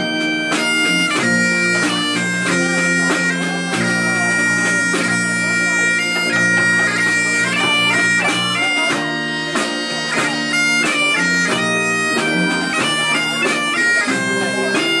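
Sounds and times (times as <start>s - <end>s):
bagpipe music: 0.0s - 15.0s.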